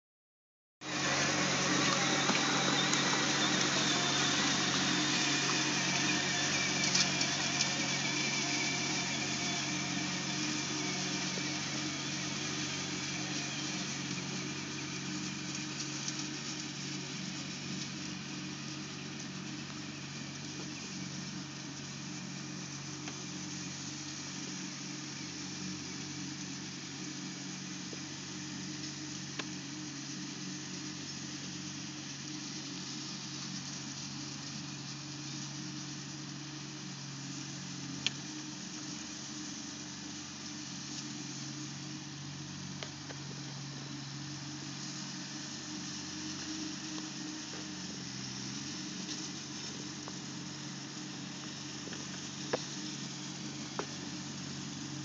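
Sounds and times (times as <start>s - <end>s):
tractor diesel engine droning: 0.8s - 55.0s.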